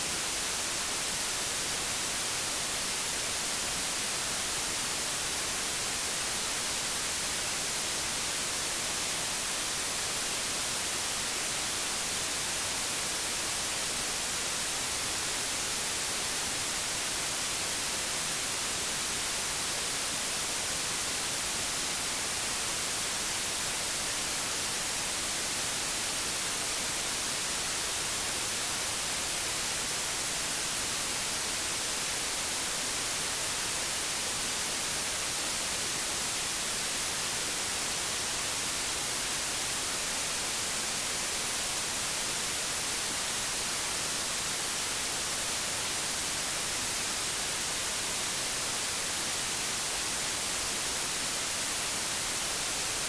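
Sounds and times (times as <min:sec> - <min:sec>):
television static hiss: 0:00.0 - 0:53.0.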